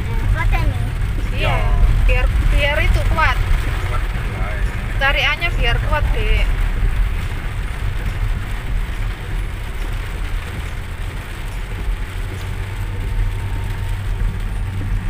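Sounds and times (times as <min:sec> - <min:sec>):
car driving low rumble: 0:00.0 - 0:15.0
rain hitting car roof: 0:00.0 - 0:15.0.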